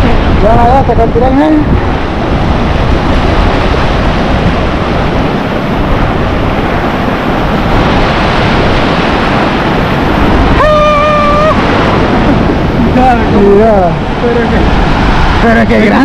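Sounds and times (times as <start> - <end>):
ocean surf washing in: 0.0 - 16.0
wind buffeting microphone: 0.0 - 16.0.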